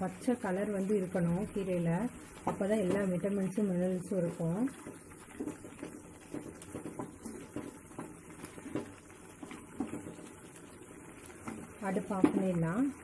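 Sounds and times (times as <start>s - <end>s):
thick stew bubbling: 0.0s - 13.0s
small pops and plops: 1.5s - 13.0s.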